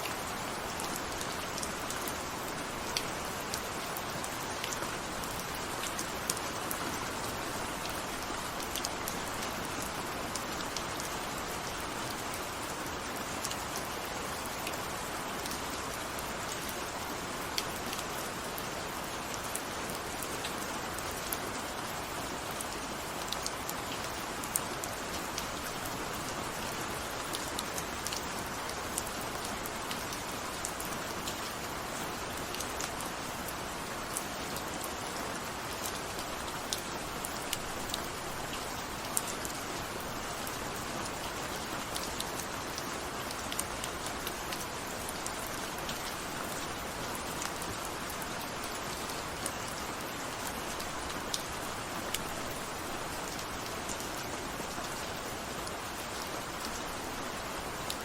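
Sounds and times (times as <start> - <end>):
raindrops ticking on surface: 0.0 - 58.0
steady rain hiss: 0.0 - 58.0.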